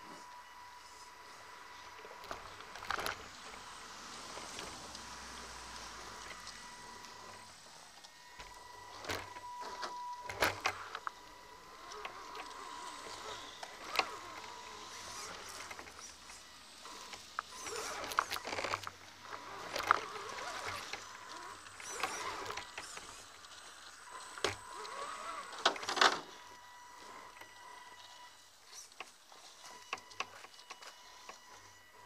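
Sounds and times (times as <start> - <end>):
electric motor whine: 0.0 - 32.0.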